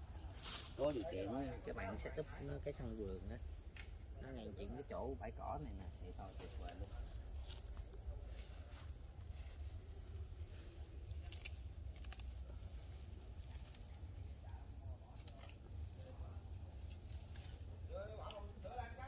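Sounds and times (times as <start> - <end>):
grass rustling by hand: 0.0 - 2.8, 5.8 - 19.0
insects chirping: 0.0 - 19.0.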